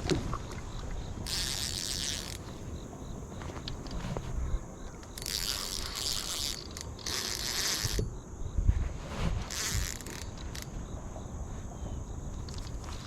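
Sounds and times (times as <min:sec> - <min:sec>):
steady insect drone: 0:00.0 - 0:13.0.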